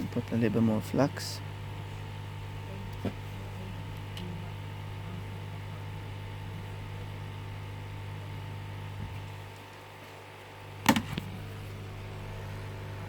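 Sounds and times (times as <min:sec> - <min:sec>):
hot air station fan hum: 0:00.0 - 0:13.0.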